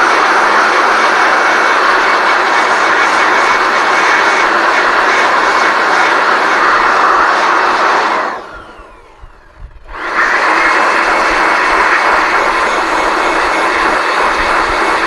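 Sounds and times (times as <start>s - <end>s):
electric blower running: 0.0s - 15.0s.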